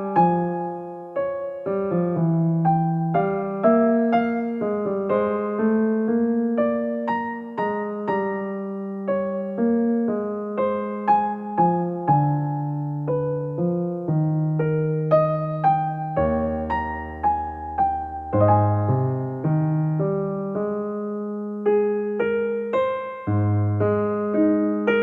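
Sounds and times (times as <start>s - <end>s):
slow gentle piano music: 0.0s - 25.0s.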